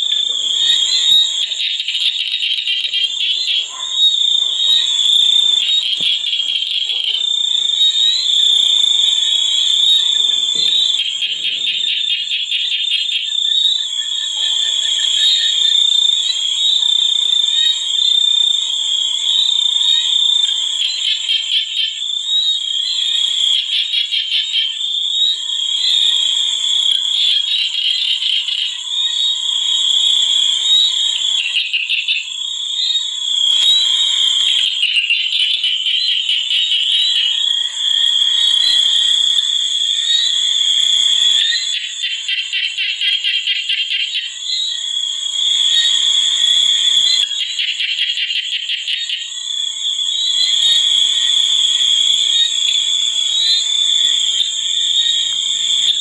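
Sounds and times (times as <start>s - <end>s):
frogs calling in pulsed trills: 0.0s - 56.0s.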